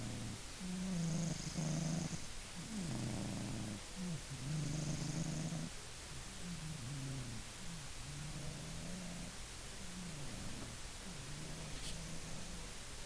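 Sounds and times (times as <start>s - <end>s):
cat snoring: 0.0s - 5.7s, 6.4s - 12.7s.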